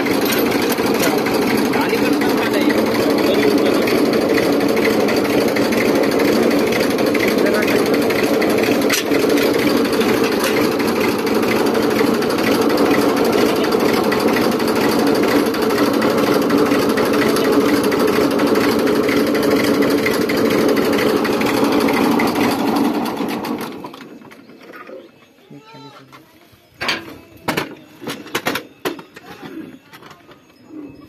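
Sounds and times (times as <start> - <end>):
tractor diesel engine clattering: 0.0 - 31.0.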